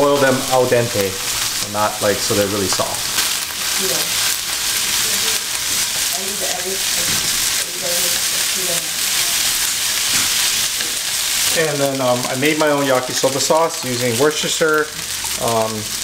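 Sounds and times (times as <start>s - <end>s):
chopsticks stirring in a pan: 0.0s - 16.0s
noodles sizzling in a frying pan: 0.0s - 16.0s.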